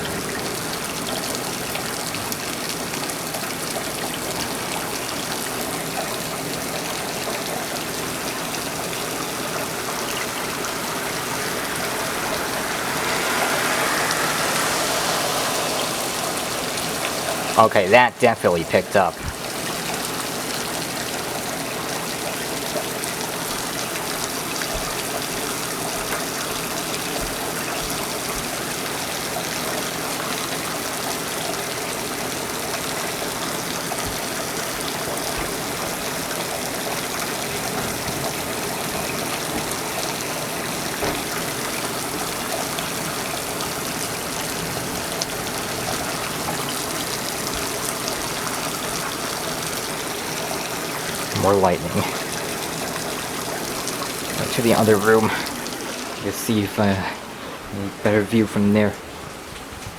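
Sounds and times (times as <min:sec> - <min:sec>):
torrential rain hissing: 0:00.0 - 0:59.9
water gushing from gutters: 0:00.0 - 0:59.9.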